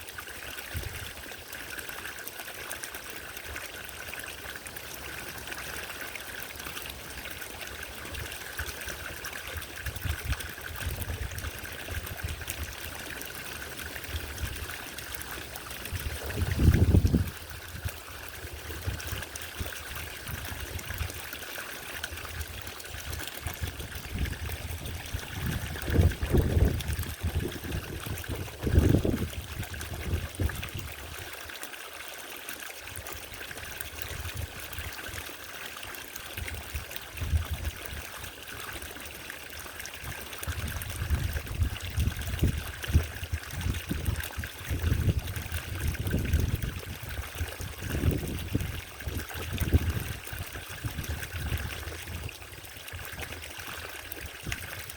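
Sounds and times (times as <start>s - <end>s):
garden fountain trickling and splashing: 0.0s - 54.9s.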